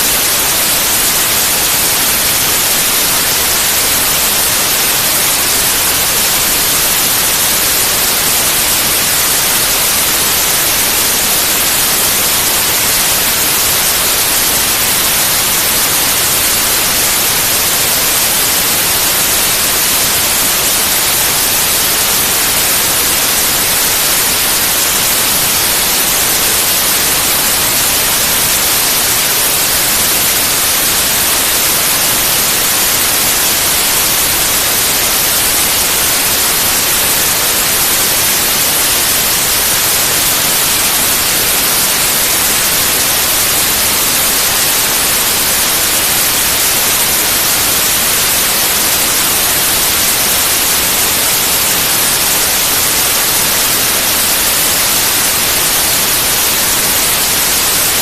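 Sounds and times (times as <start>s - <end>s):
loud white noise hiss: 0.0s - 58.0s.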